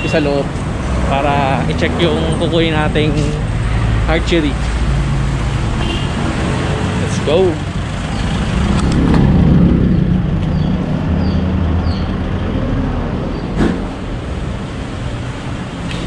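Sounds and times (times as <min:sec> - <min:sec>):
road traffic rumbling: 0:00.0 - 0:16.0
vehicle passing: 0:00.4 - 0:15.9.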